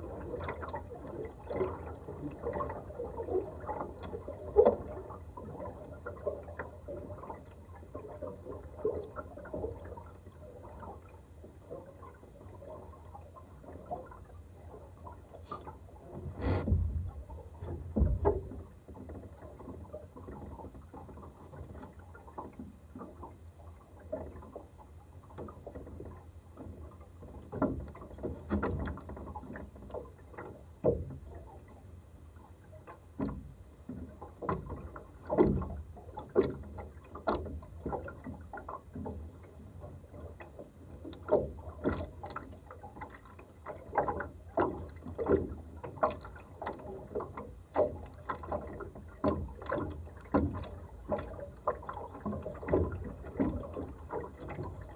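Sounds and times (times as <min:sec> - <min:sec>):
low steady water rush: 0:00.0 - 0:54.9
water slapping against hull: 0:00.0 - 0:54.9.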